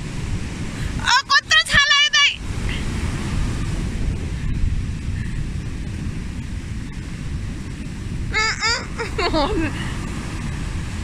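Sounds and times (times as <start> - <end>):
ocean surf washing on beach: 0.0 - 11.0
wind rumbling on microphone: 0.0 - 11.0.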